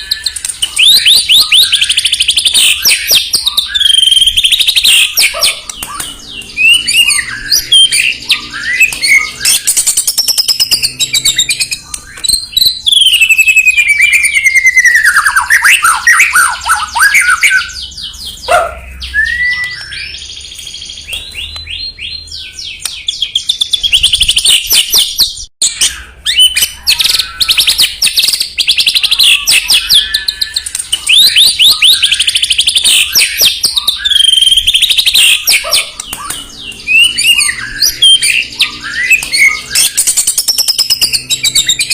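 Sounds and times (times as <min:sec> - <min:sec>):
bird singing whistled song: 0:00.0 - 0:41.9.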